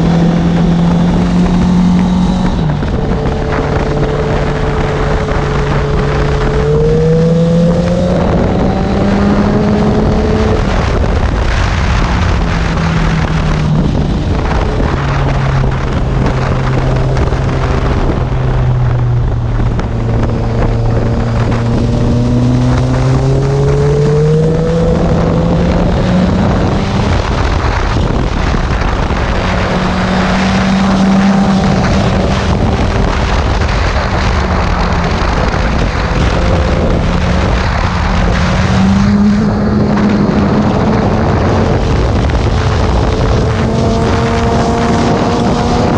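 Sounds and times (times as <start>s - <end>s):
motorcycle engine running: 0.0s - 45.9s
wind noise: 0.0s - 45.9s.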